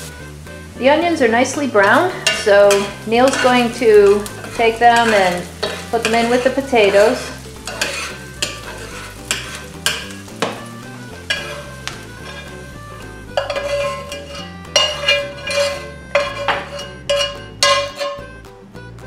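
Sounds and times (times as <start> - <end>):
metal utensil scraping frying pan: 0.8 - 18.4.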